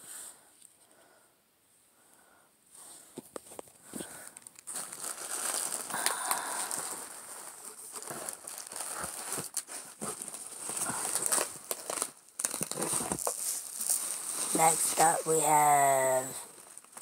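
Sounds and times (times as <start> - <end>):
plastic packaging crinkling: 3.3 - 17.0.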